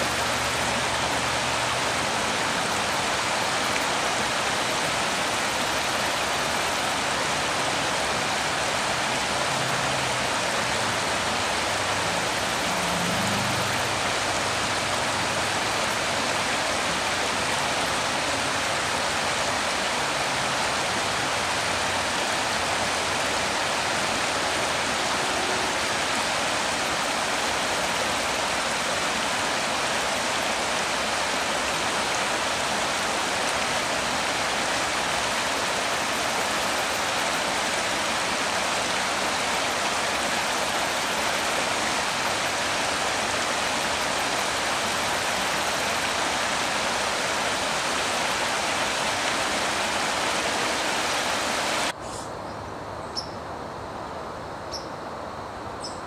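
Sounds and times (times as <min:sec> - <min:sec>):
water rushing over rocks: 0:00.0 - 0:52.0.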